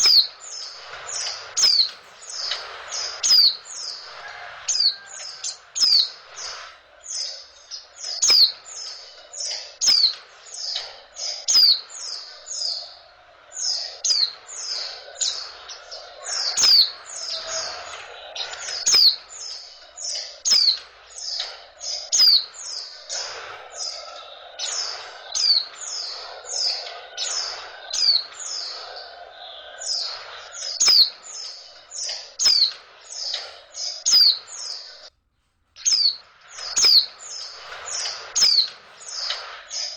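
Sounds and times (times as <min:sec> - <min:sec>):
bird chirping: 0:00.0 - 0:35.1, 0:35.8 - 0:39.9.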